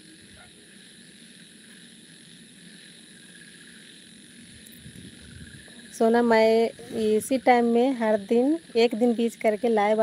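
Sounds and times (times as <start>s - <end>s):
faint room noise hiss: 0.0s - 10.0s.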